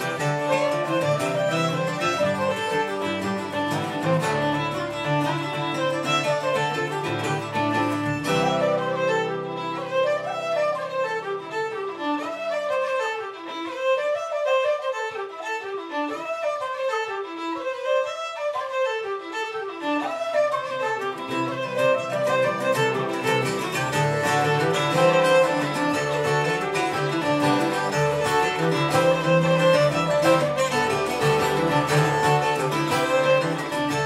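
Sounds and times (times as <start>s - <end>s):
traditional folk jigs: 0.0s - 34.0s.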